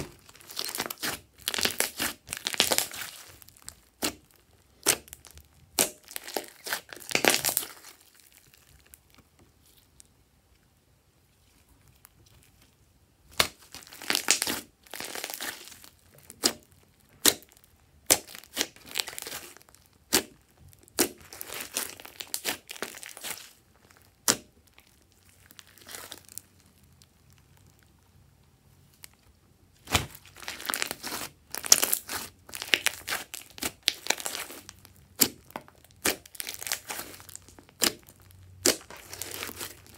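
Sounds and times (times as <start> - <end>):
hands squishing slime: 0.0 - 10.0, 13.2 - 27.2, 29.8 - 39.9.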